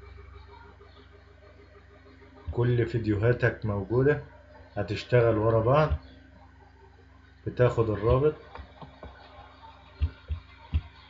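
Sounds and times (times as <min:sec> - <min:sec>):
faint music: 0:00.0 - 0:11.0.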